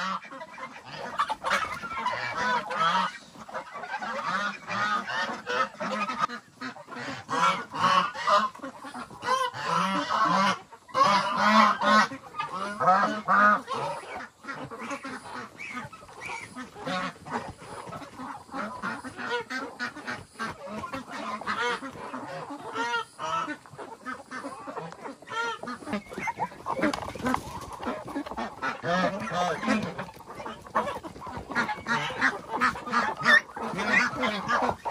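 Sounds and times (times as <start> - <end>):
poultry calling: 0.0 - 34.9.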